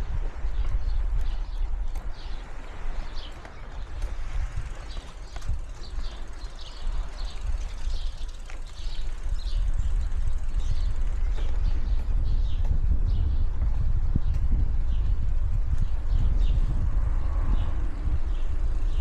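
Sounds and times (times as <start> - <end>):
bicycle tyres rolling on street: 0.0 - 19.0
birds chirping: 0.0 - 19.0
wind on microphone: 0.0 - 19.0.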